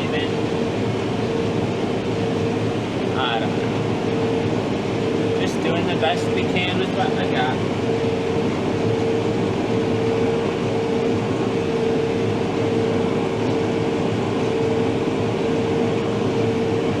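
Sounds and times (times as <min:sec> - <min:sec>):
steady mechanical whine: 0:00.0 - 0:17.0
tractor engine drone: 0:00.0 - 0:17.0.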